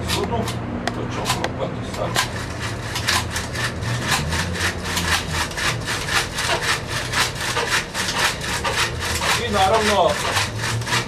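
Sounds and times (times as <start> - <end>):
dynamo whirring with rasping rattle: 1.3 - 11.0.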